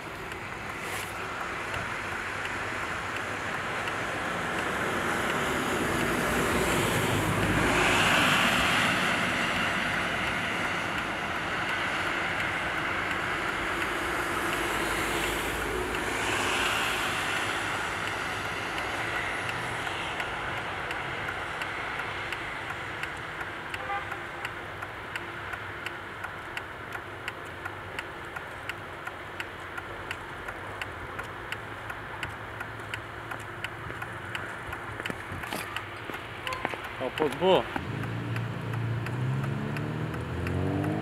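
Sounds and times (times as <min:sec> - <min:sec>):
rushing background noise: 0:00.0 - 0:41.0.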